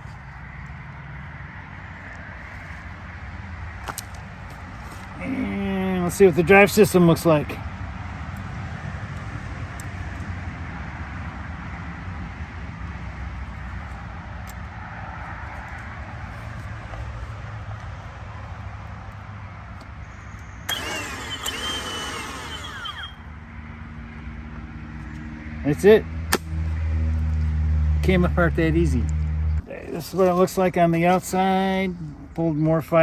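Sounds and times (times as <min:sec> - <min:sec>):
distant traffic rumble: 0:00.0 - 0:33.0.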